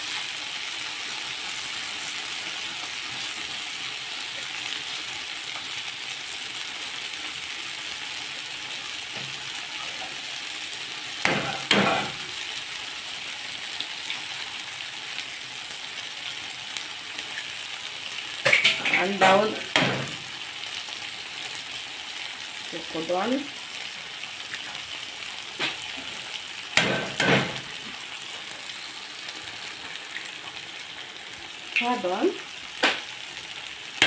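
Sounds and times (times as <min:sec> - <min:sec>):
sauce sizzling in a frying pan: 0:00.0 - 0:34.0.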